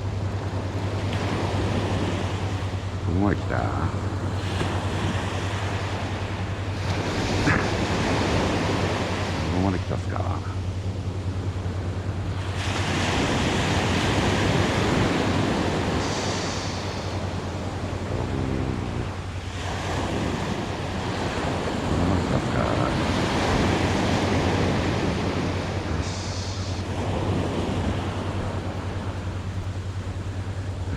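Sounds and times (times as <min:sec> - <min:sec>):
wind rumbling on microphone: 0:00.0 - 0:09.6, 0:10.6 - 0:30.9
ocean surf breaking on sand: 0:00.0 - 0:30.9.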